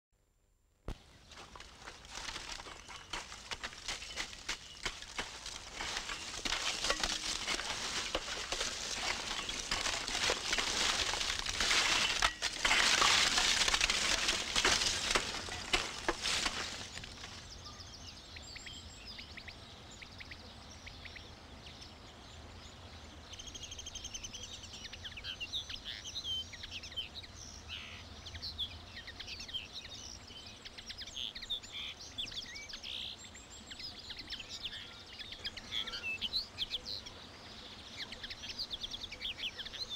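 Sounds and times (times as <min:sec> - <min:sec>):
birds chirping and singing: 0:01.1 - 0:39.9.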